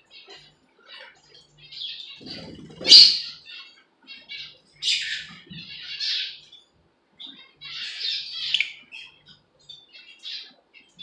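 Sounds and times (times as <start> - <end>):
lovebirds squawking and chirping: 0.1 - 11.0.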